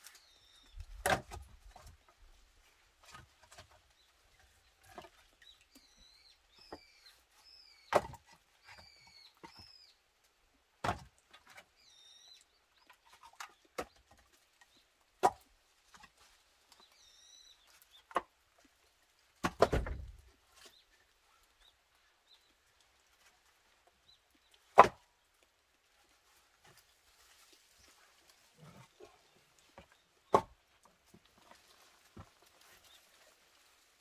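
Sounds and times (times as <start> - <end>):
small birds chirping: 0.0 - 10.1, 11.4 - 15.0, 15.9 - 19.2, 19.9 - 34.0.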